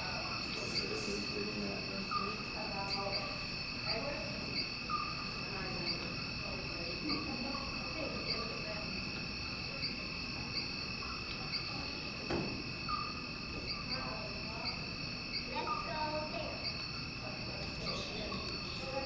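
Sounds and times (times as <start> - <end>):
crickets chirping: 0.0 - 19.0
faint murmur of voices: 0.0 - 19.0.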